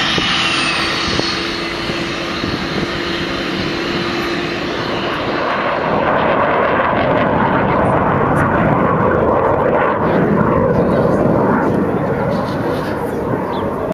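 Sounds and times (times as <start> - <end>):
jet engines roaring: 0.0 - 13.9.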